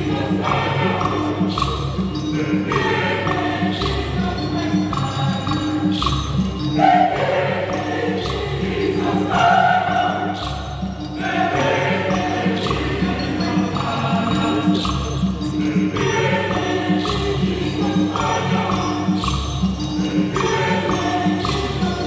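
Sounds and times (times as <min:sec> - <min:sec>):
choir singing: 0:00.0 - 0:22.0
drums and percussion: 0:00.0 - 0:22.0.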